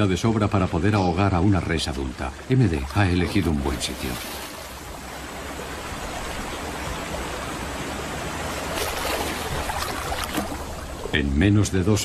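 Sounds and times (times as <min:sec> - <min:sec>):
river water splashing and churning: 0:00.0 - 0:12.0.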